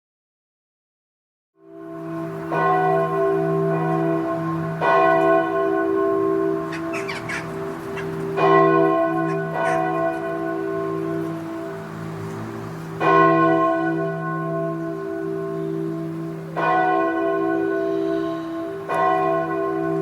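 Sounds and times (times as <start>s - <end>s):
large bell ringing: 1.6s - 20.0s.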